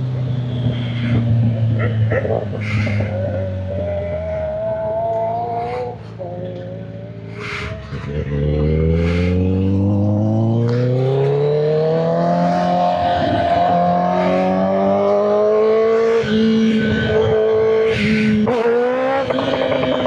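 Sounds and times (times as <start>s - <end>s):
motorcycle engine accelerating: 3.4s - 20.0s.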